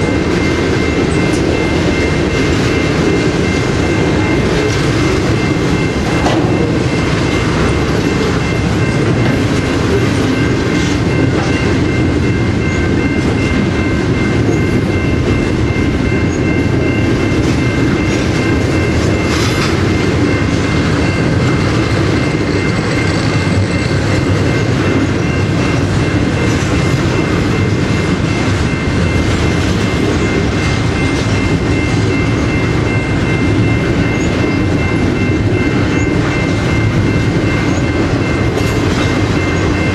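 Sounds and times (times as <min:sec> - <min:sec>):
train rumbling by: 0:00.0 - 0:39.9.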